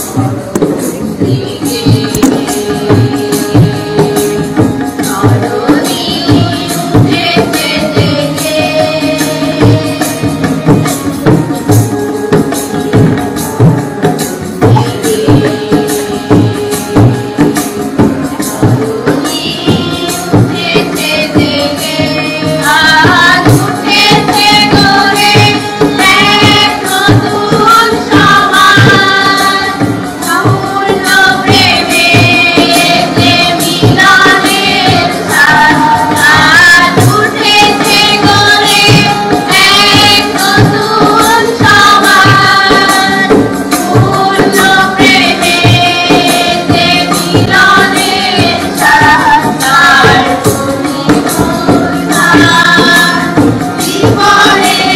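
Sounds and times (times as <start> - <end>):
person singing a melody: 0.0 - 54.9
steady percussion beat: 0.0 - 54.9.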